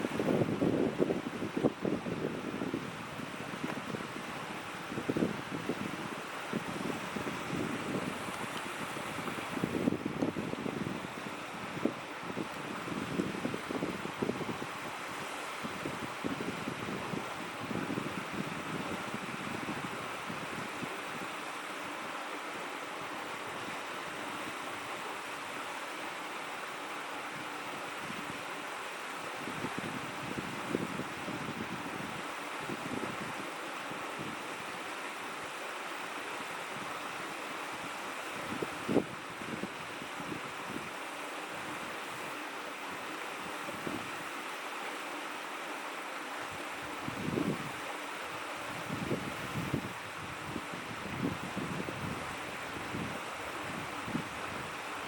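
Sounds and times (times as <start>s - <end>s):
shallow stream babbling: 0.0s - 55.0s.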